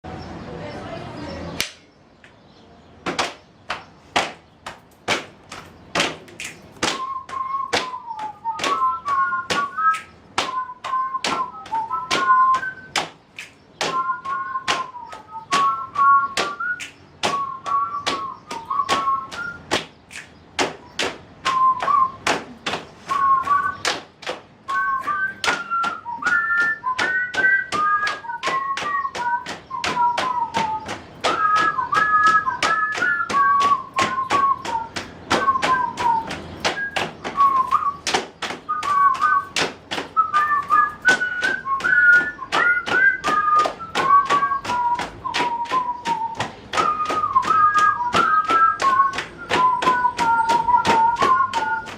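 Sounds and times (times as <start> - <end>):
hand claps and slaps: 1.6 - 2.4, 3.0 - 51.9
whistled tune: 6.4 - 51.9.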